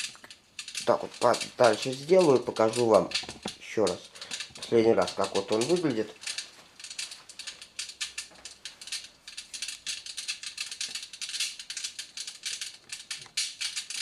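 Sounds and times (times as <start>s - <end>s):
recorded fire crackling: 0.0s - 14.0s.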